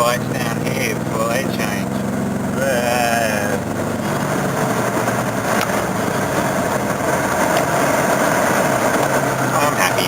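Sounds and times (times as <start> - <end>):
car engine: 0.0 - 10.0
road noise: 0.0 - 10.0.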